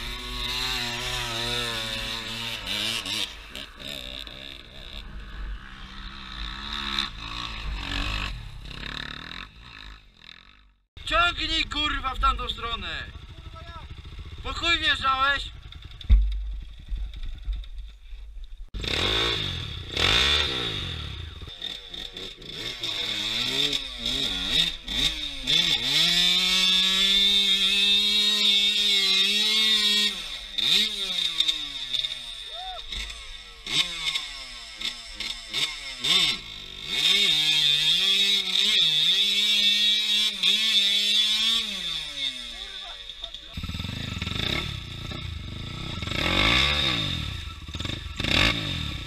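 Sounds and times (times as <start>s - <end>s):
dirt bike engine revving: 0.0s - 17.8s, 18.7s - 49.0s.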